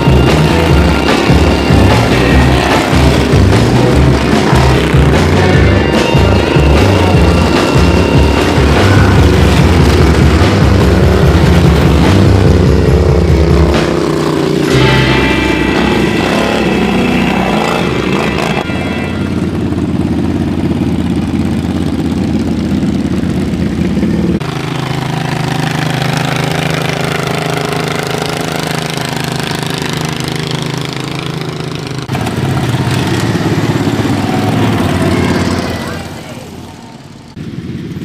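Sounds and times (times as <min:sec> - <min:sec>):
lawnmower engines running: 0:00.0 - 0:38.0.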